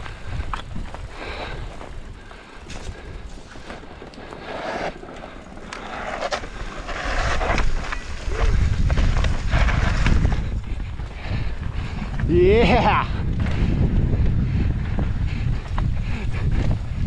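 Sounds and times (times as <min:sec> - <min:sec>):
wind rumble on microphone: 0:00.0 - 0:04.6, 0:06.2 - 0:17.0
bike tyres rolling over dirt: 0:00.0 - 0:17.0.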